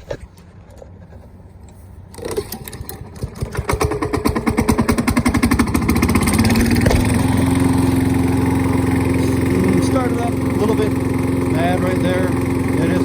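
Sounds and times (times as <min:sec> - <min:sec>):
lawn mower engine starting: 0:01.2 - 0:13.0.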